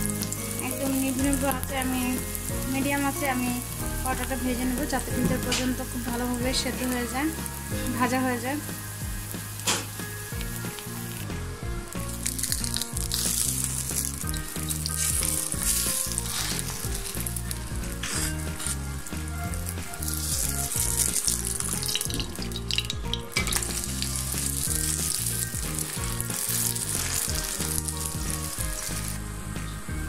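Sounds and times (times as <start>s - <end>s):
flatbread sizzling in a pan: 0.0s - 30.0s.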